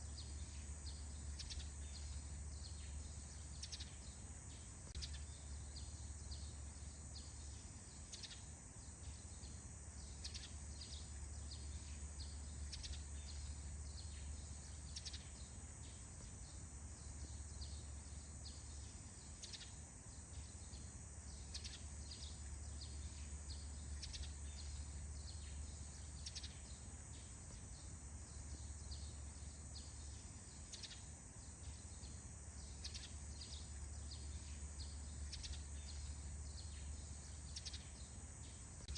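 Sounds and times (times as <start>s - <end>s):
bird chirps: 0.0s - 38.9s
low steady hum: 0.0s - 38.9s
steady high hiss: 0.0s - 38.9s.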